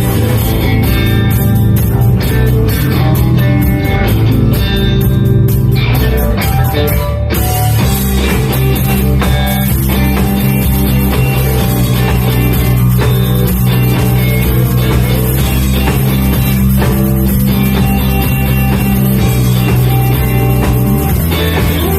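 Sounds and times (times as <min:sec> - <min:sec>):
bass: 0:00.0 - 0:21.9
drums: 0:00.0 - 0:21.9
electric guitars: 0:00.0 - 0:21.9
rock band playing: 0:00.0 - 0:21.9.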